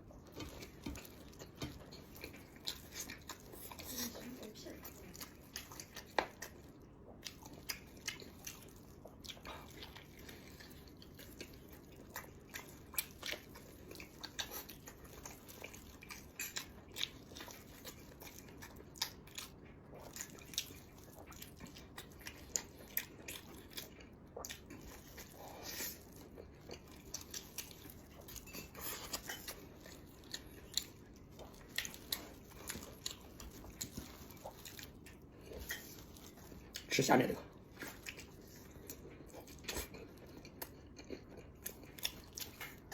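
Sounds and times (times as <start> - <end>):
person chewing and biting: 5.1 - 36.9, 37.6 - 42.9.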